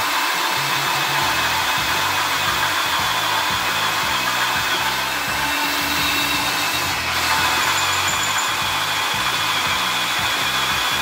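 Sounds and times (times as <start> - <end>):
cordless drill boring into wood: 0.0 - 11.0.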